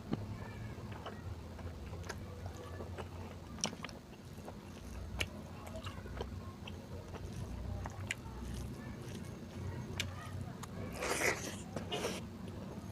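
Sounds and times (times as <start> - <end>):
person chewing food: 0.1 - 12.9.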